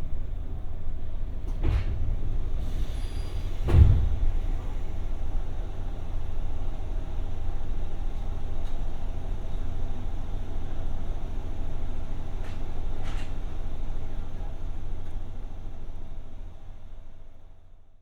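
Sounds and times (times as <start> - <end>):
electric train low hum: 0.0 - 18.0.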